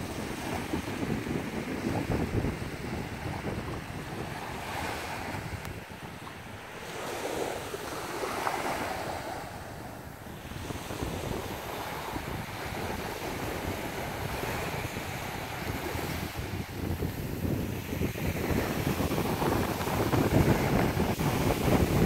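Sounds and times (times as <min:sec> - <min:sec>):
small waves breaking on sand: 0:00.0 - 0:22.0
wind gusting over microphone: 0:00.0 - 0:22.0.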